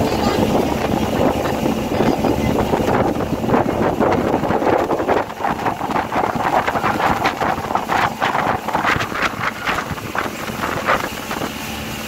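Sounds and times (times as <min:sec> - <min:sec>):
water rushing: 0:00.0 - 0:12.0
wind buffeting microphone: 0:00.0 - 0:12.0.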